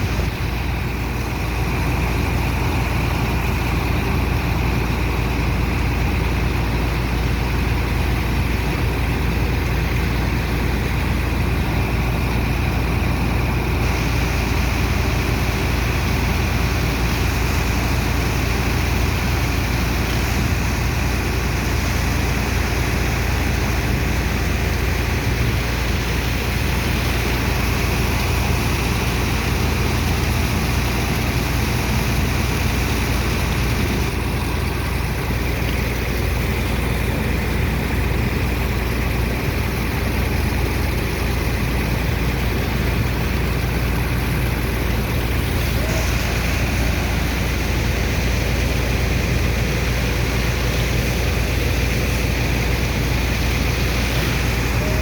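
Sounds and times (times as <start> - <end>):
heavy pump engine droning: 0.0 - 55.0.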